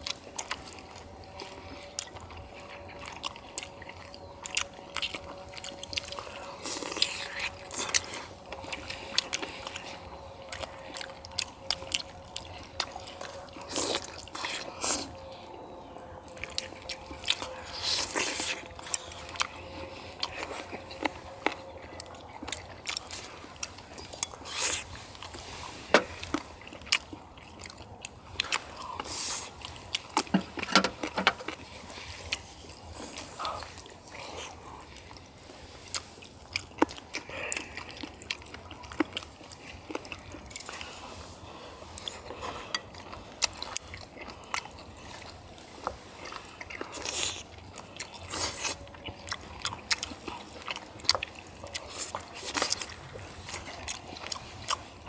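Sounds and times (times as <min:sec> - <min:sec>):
faint steady hum: 0:00.0 - 0:55.0
people chewing and slurping: 0:00.0 - 0:55.0.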